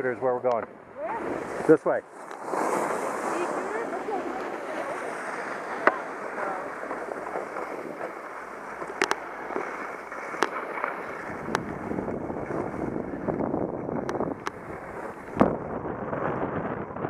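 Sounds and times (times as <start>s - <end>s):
wind on microphone: 0.8s - 17.0s
edges scraping over packed snow: 1.0s - 15.3s.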